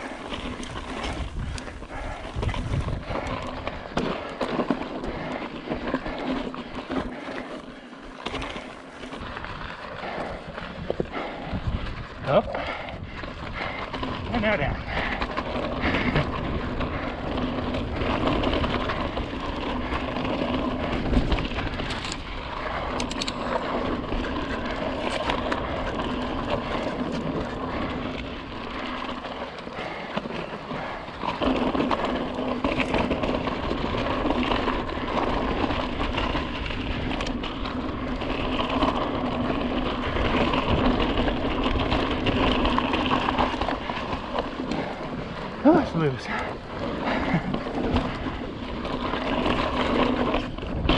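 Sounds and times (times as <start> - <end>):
bike rattling and clicking: 0.0 - 50.9
bike tyres rolling over rock: 0.0 - 50.9.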